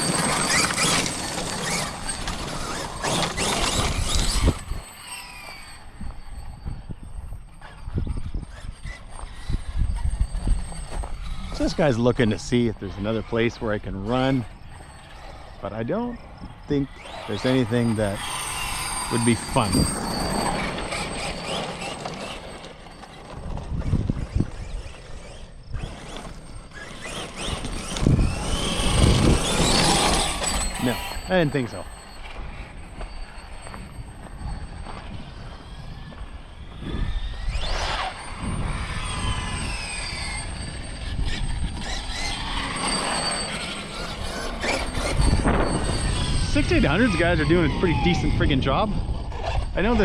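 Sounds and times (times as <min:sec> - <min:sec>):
electric motor whine: 0:00.0 - 0:50.0
rc truck driving over rough ground: 0:00.0 - 0:50.0.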